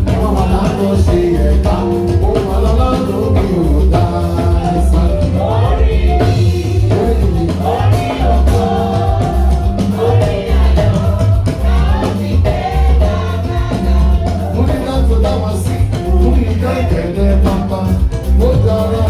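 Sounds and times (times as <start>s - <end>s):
heavy bass beat: 0.0s - 19.0s
voices singing gospel: 0.0s - 19.0s.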